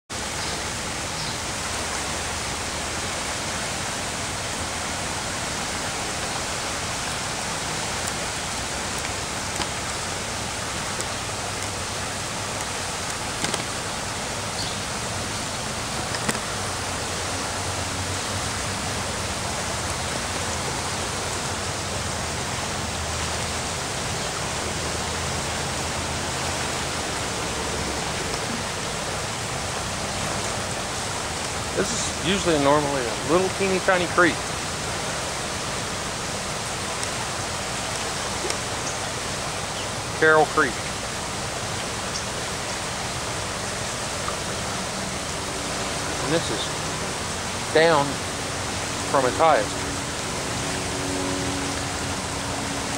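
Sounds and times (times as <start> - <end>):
floodwater rushing: 0.1 - 52.9.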